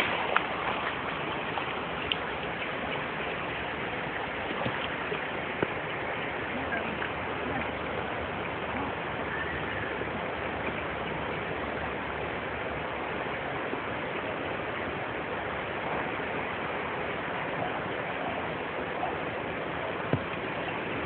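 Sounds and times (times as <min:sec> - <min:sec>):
flowing river water: 0:00.0 - 0:21.0.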